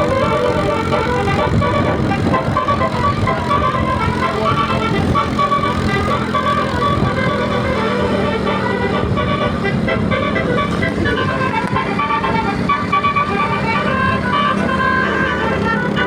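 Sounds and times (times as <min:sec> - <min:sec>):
musical bus horn melody: 0:00.0 - 0:16.0.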